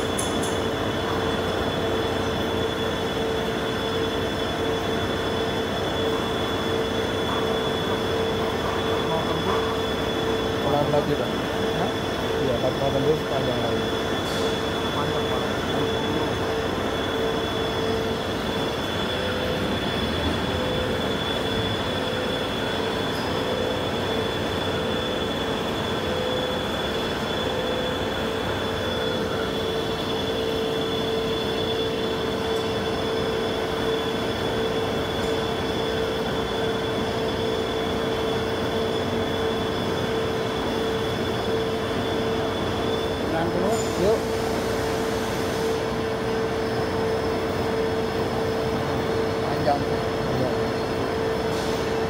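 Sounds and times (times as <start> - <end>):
coolant spraying and cutting hiss: 0.0 - 32.3, 37.3 - 46.1, 51.1 - 52.0
lathe whine: 0.0 - 52.0.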